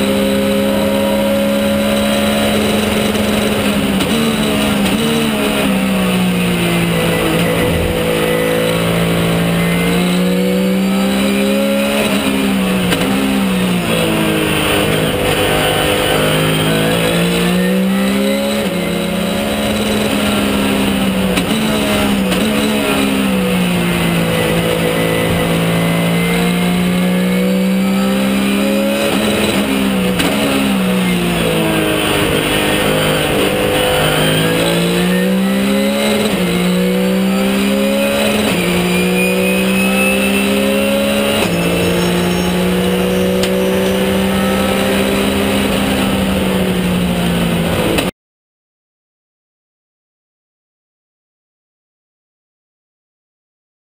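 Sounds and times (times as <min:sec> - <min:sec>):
race car engine revving: 0:00.0 - 0:48.1.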